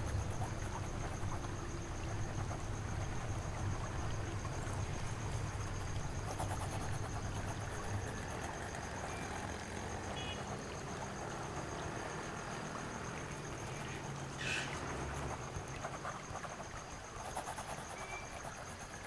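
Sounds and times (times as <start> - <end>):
pulsing insect drone: 0.0 - 19.0.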